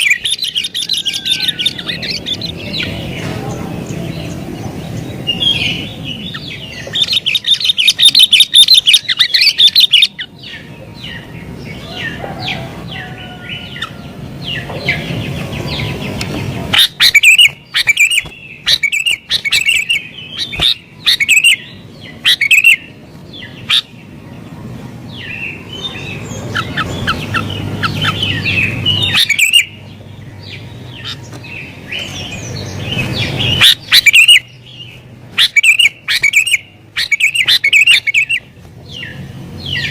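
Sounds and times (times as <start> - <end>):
bulbul singing and chirping: 0.0 - 39.9.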